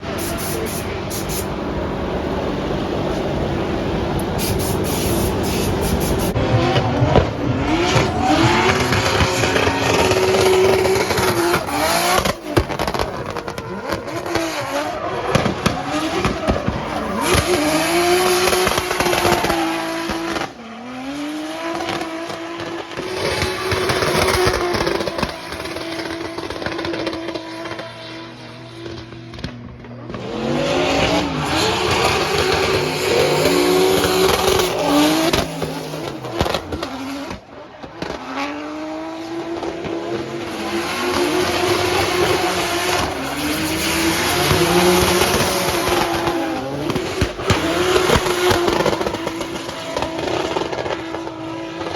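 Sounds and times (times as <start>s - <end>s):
car engine revving hard: 0.0s - 29.5s, 30.1s - 51.9s.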